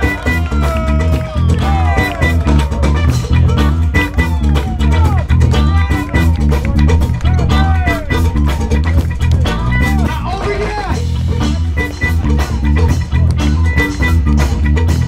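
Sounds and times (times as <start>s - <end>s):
music with bass and guitar: 0.0s - 15.0s.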